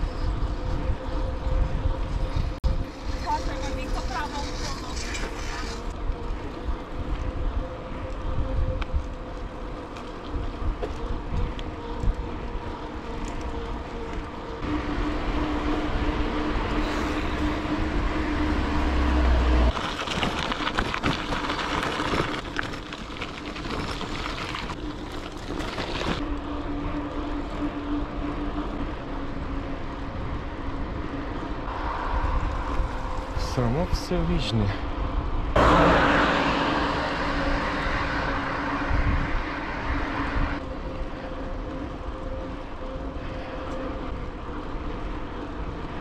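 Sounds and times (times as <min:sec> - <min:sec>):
bike tyre rolling hum: 0:00.0 - 0:46.0
wind buffeting microphone: 0:00.0 - 0:46.0.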